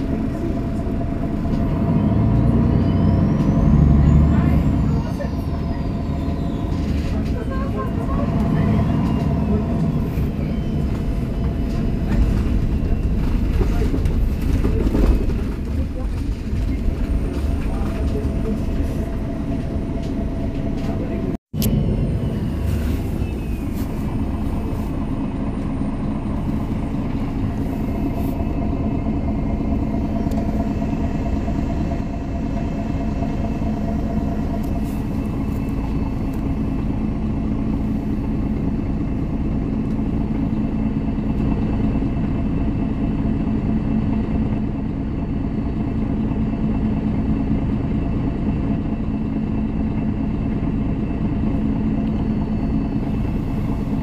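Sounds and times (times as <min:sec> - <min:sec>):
bus diesel engine droning: 0:00.0 - 0:54.0
road and running noise: 0:00.0 - 0:54.0.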